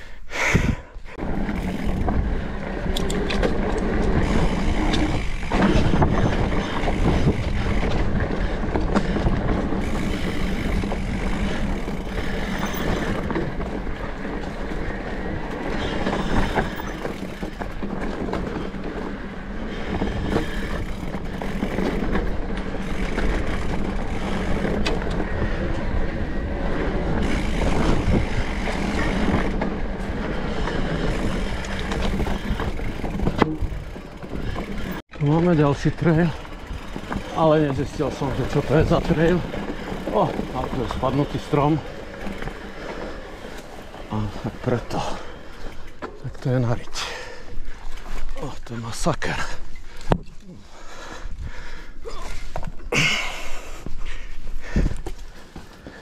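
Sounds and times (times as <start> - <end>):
tyres rumbling on trail: 0.0 - 56.0
bike rattling and knocking: 0.7 - 56.0.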